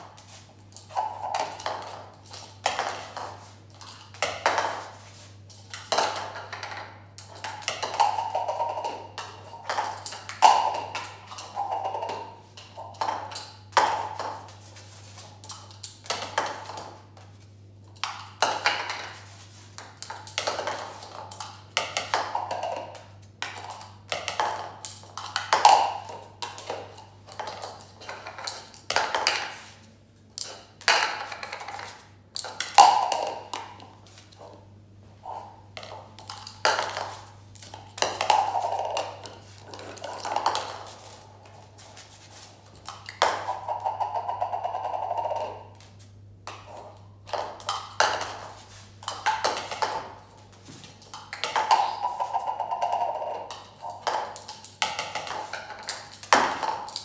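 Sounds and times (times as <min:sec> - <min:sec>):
plastic cups clattering on tile floor: 0:00.0 - 0:57.0.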